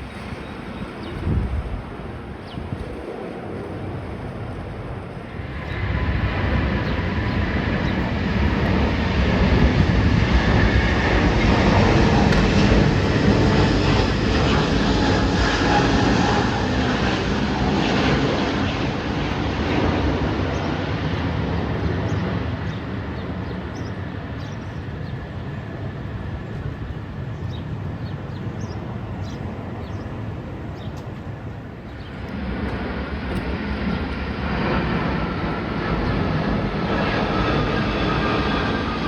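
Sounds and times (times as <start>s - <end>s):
jet airliner flying overhead: 0.0s - 39.0s.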